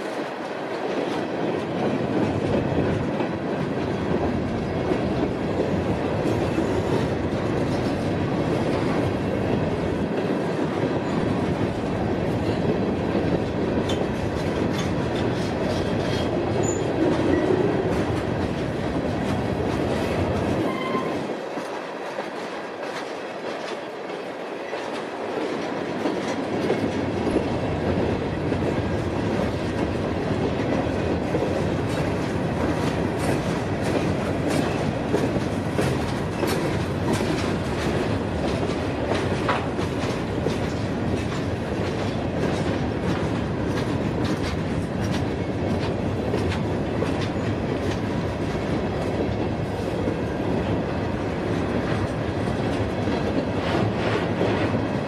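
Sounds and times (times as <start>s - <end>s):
low train rumble: 0.0s - 55.0s
train wheels clicking over rail joints: 0.0s - 55.0s.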